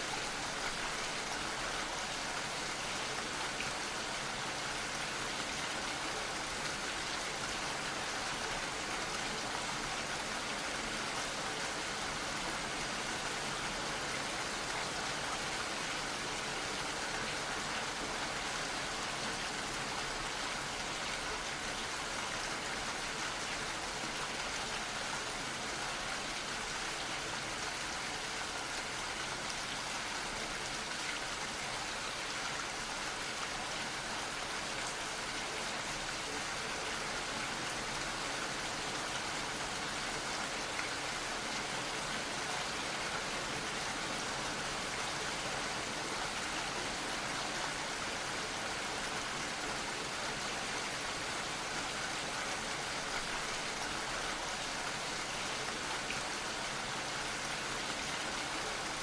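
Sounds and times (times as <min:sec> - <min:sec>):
gentle rain patter: 0:00.0 - 0:59.0.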